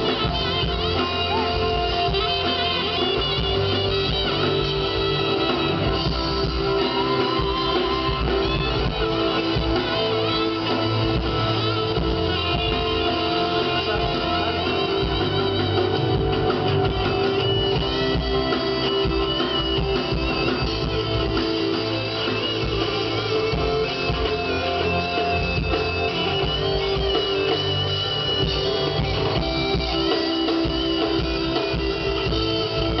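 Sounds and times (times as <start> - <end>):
electric guitar: 0.0 - 33.0
live band through pa: 0.0 - 33.0.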